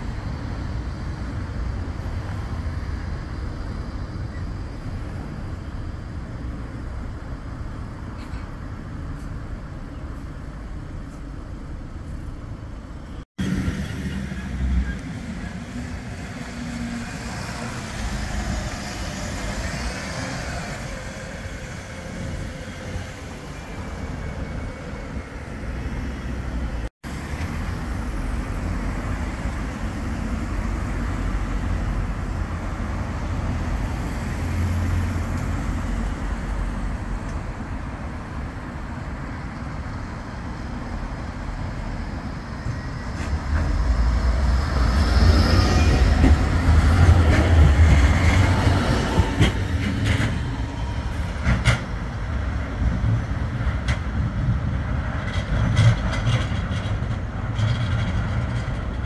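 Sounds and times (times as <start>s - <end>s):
bus driving with whine: 0.0s - 59.0s
cars passing over tram tracks: 0.0s - 59.0s
street traffic rumble: 0.0s - 59.0s
tram running on street track: 0.0s - 59.0s.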